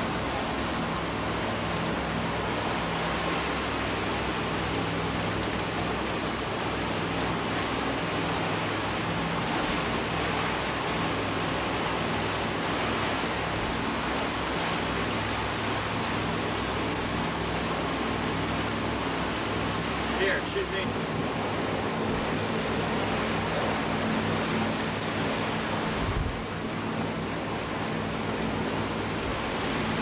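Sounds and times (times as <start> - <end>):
boat engines humming: 0.0 - 30.0
wind and water hiss: 0.0 - 30.0.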